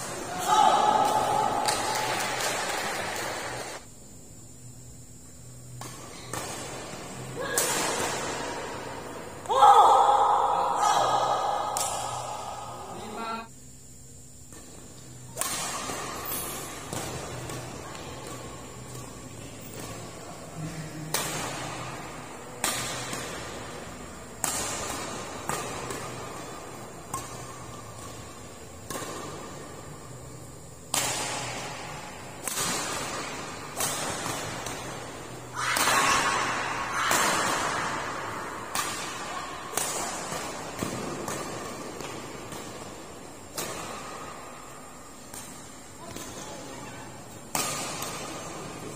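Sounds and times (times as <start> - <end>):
rackets hitting shuttlecock: 0.0 - 3.9, 5.4 - 13.0, 14.5 - 48.9.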